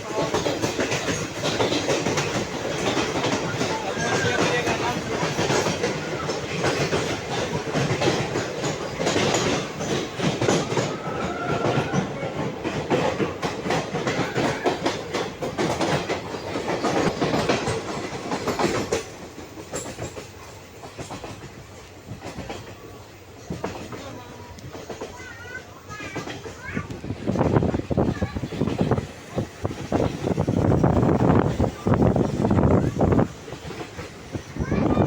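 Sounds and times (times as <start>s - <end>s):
train wheels clickety-clack: 0.0s - 35.0s.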